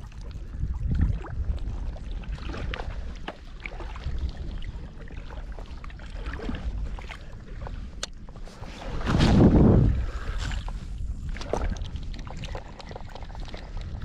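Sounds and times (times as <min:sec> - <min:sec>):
water lapping and splashing: 0:00.0 - 0:14.0
wind rumble on microphone: 0:00.0 - 0:14.0.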